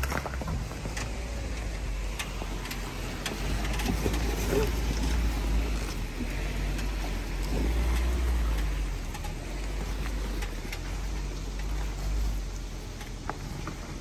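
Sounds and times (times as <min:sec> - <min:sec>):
stones crackling under tyres: 0:00.0 - 0:14.0
vehicle engine rumble: 0:00.0 - 0:14.0.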